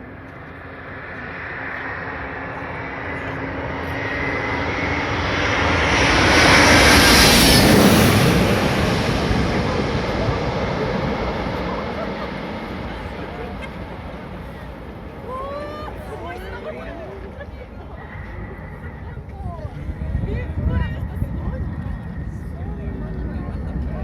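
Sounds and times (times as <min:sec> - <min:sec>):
jet airliner passing overhead: 0:00.0 - 0:24.0
jet engine whine: 0:00.0 - 0:24.0.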